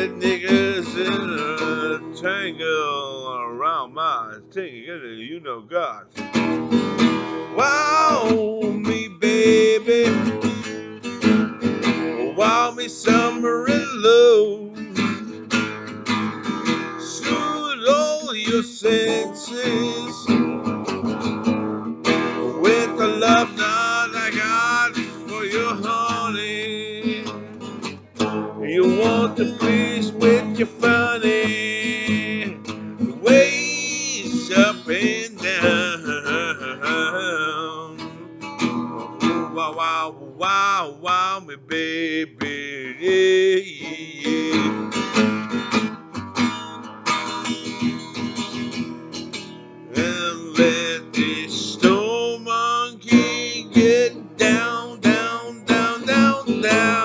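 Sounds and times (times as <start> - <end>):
man singing: 0.0 - 6.2, 7.5 - 10.8, 11.8 - 15.3, 16.9 - 20.8, 22.1 - 27.6, 28.5 - 45.5, 49.9 - 57.0
acoustic guitar blues: 0.0 - 57.0.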